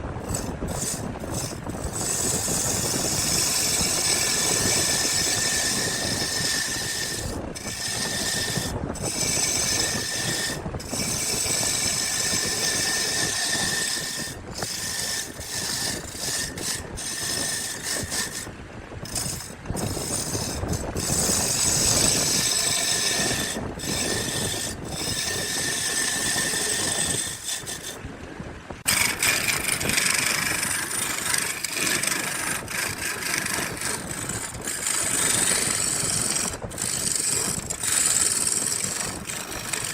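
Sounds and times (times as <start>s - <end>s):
power tool working wood: 0.0s - 28.0s, 28.8s - 39.9s.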